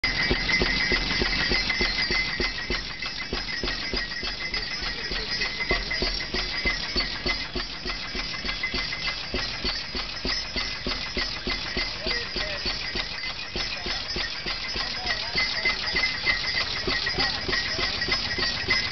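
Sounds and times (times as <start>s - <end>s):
tractor engine knocking: 0.0s - 18.9s.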